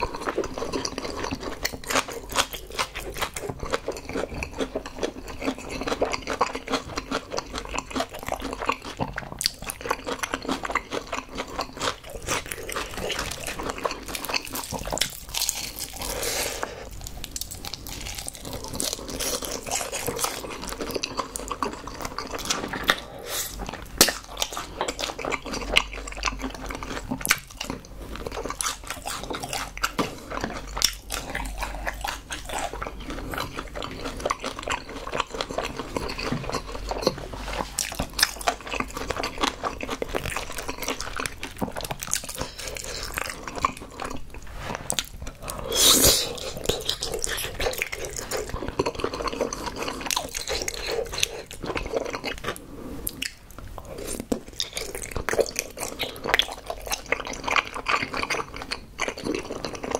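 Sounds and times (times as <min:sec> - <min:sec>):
close chewing: 0:00.0 - 0:59.9.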